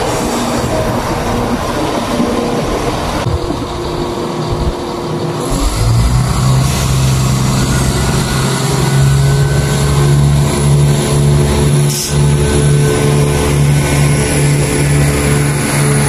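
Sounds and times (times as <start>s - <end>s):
train approaching low hum: 0.0s - 16.0s.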